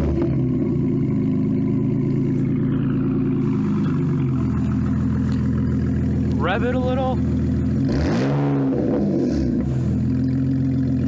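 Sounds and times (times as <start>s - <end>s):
loud car engine idling: 0.0s - 11.0s.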